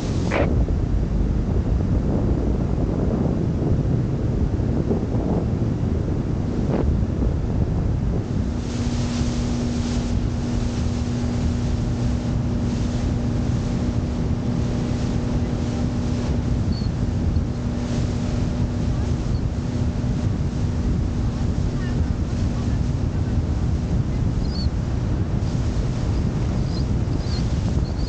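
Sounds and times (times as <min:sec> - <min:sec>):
motorboat engine drone: 0:00.0 - 0:28.0
steady hum: 0:00.0 - 0:28.0
wind buffeting microphone: 0:00.0 - 0:28.0.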